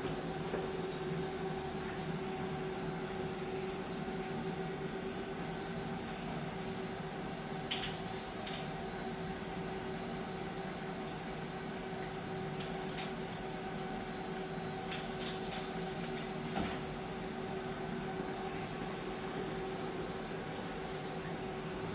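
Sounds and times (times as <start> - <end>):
room hiss and electrical hum: 0.0 - 21.9.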